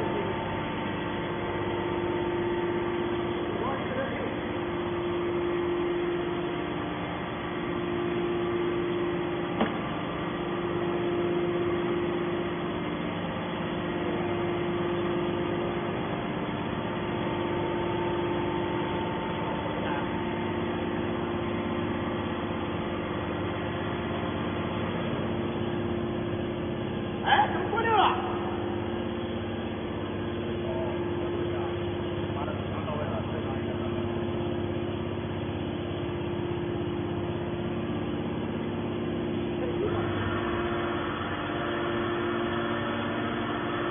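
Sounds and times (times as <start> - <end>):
hydraulic pump humming: 0.0 - 43.9.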